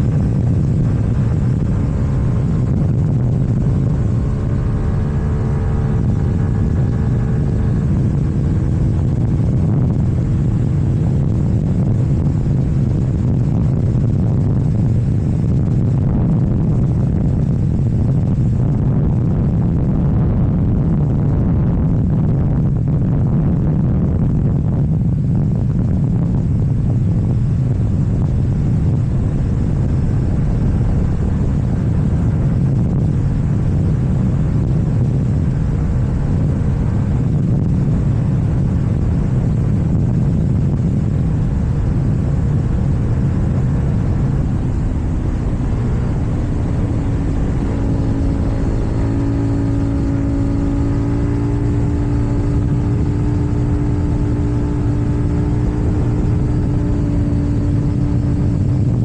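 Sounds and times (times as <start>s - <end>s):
motorcycle engine running: 0.0s - 59.0s
road rumble: 0.0s - 59.0s.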